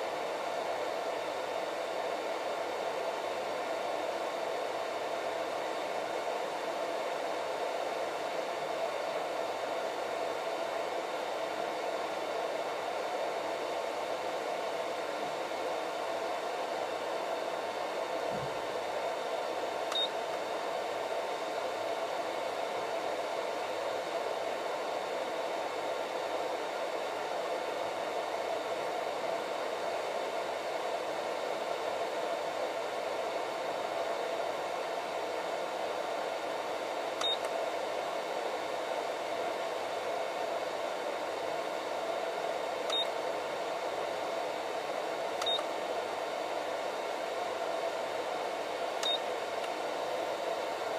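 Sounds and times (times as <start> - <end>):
cooling fan whirring: 0.0 - 50.9.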